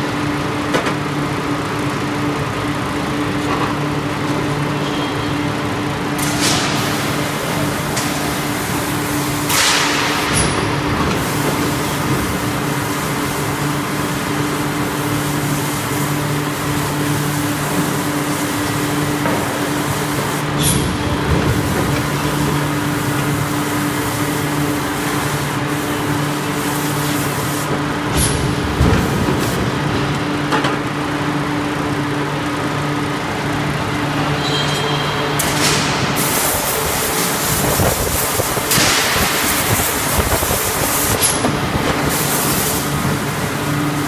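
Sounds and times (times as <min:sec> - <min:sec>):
machinery low hum: 0:00.0 - 0:44.0.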